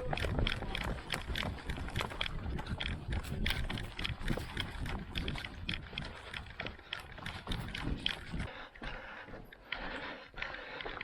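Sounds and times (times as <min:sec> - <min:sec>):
crunching footsteps: 0:00.0 - 0:11.0.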